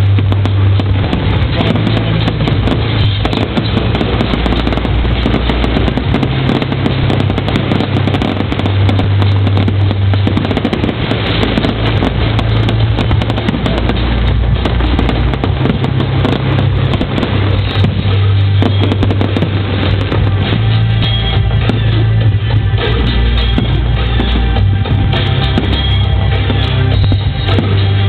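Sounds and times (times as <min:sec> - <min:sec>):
fireworks crackling and banging: 0:00.0 - 0:28.0
loud music with deep bass: 0:00.0 - 0:28.0.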